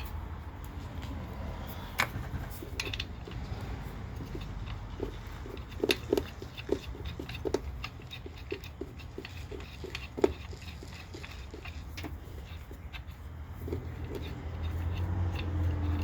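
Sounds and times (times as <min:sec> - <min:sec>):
wrench clicking and tapping: 0:01.9 - 0:16.0.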